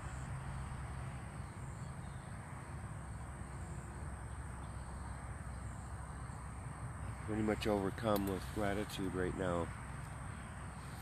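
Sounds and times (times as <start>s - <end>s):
low constant rumble: 0.0s - 11.0s.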